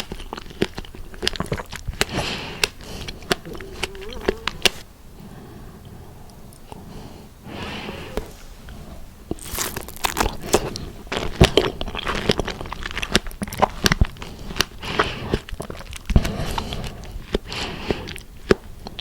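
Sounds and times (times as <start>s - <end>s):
chewing strawberries: 0.0s - 4.9s, 8.1s - 19.0s.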